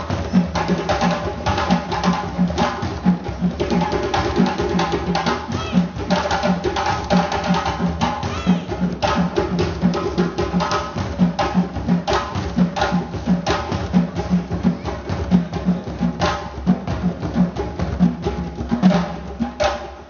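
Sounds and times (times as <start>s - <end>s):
fast sharp drum strikes: 0.0s - 20.0s
low drum beat: 0.0s - 20.0s.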